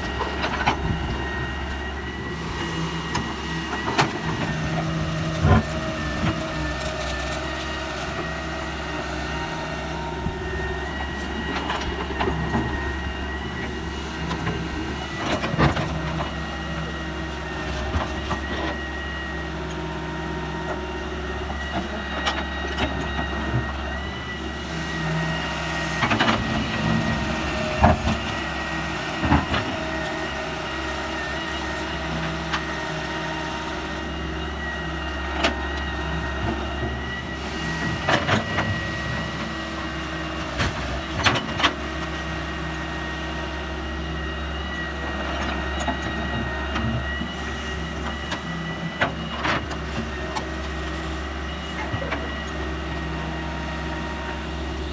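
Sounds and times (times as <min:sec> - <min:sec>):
heavy machinery engine running: 0:00.0 - 0:54.9.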